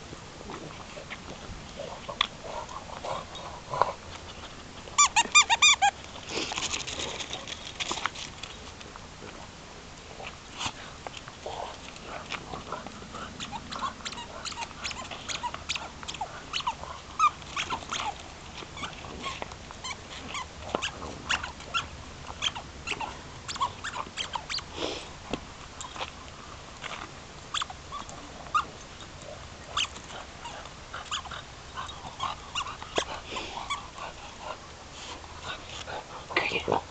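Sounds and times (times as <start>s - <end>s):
dogs play-wrestling: 0.4s - 8.5s, 10.1s - 36.9s.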